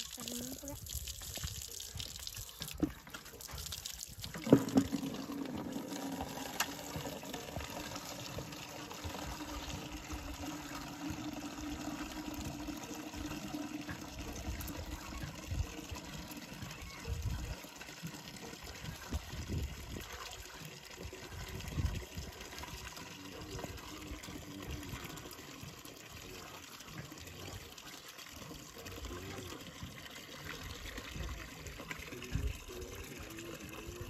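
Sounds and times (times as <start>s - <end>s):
water pouring into bucket: 0.0s - 34.0s.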